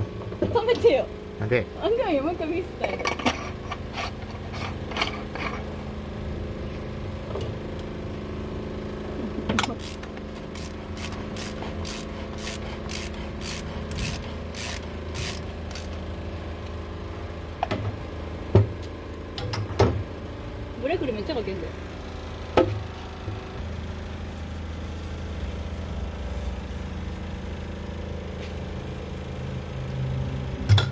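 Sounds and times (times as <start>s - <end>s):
steady hum: 0.0s - 30.9s.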